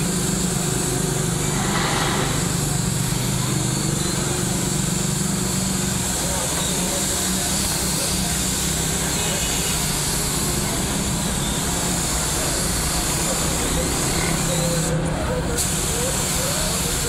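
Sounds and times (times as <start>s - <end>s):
air compressor motor hum: 0.0s - 17.0s
paint spray gun hissing: 0.0s - 17.0s.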